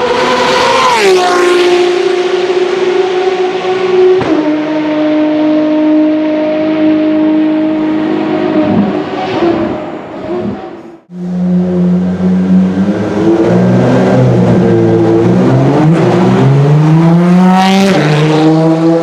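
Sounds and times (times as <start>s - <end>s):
sports car engine at high revs: 0.0s - 19.0s.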